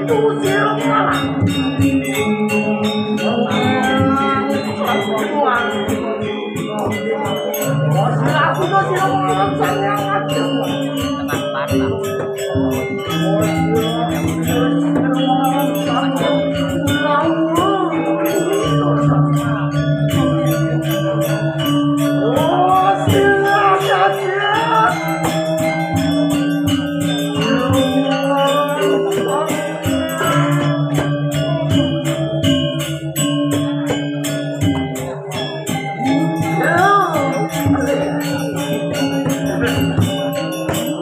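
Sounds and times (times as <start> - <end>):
metallophones and gongs ringing: 0.0 - 41.0
small cymbals clattering: 0.0 - 41.0.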